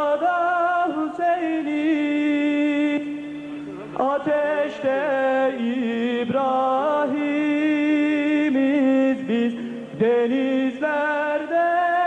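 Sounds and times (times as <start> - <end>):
person singing a hymn: 0.0 - 12.0.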